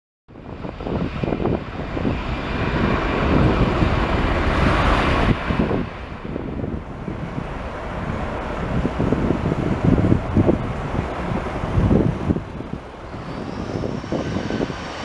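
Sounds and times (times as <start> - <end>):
jet engines rushing: 0.3 - 15.0
wind buffeting microphone: 0.3 - 15.0.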